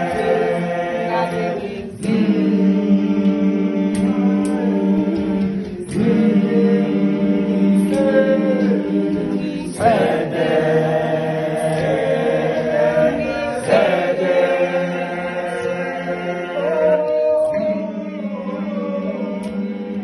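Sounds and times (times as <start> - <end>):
boys singing a cappella: 0.0 - 20.0.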